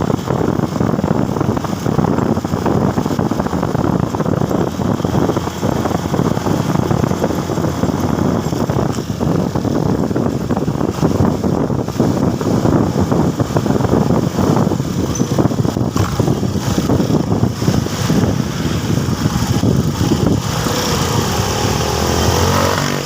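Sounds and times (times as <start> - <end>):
road and engine noise: 0.0 - 23.0
wind buffeting microphone: 0.0 - 23.0.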